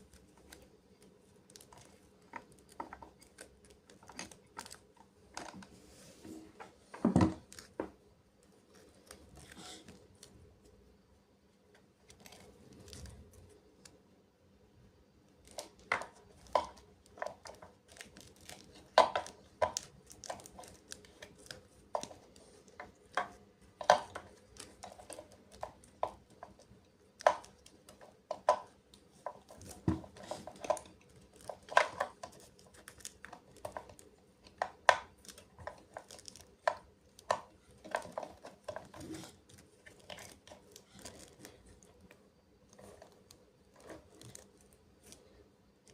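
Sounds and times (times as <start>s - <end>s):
plastic and cardboard crinkling: 0.0s - 10.9s, 11.8s - 14.0s, 15.4s - 45.9s.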